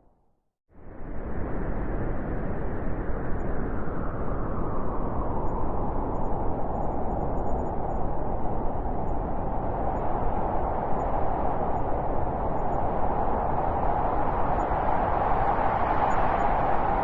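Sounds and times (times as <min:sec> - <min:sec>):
howling wind: 0:00.7 - 0:17.0.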